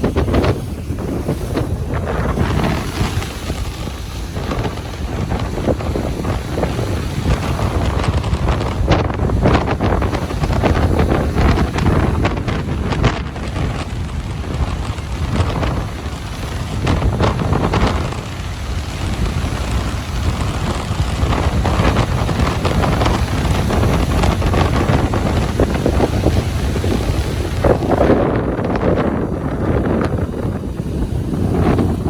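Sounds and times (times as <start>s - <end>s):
ocean surf washing onto beach: 0.0s - 32.0s
wind buffeting microphone: 0.0s - 32.0s.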